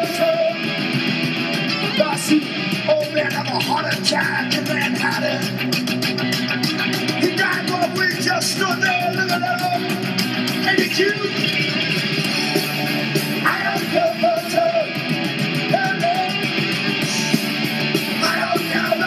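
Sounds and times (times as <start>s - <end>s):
punk rock music: 0.0s - 19.0s.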